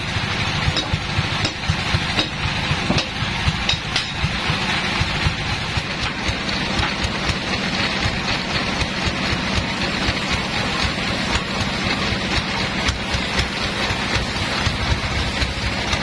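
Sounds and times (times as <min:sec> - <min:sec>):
sawmill engine chugging: 0:00.0 - 0:16.0.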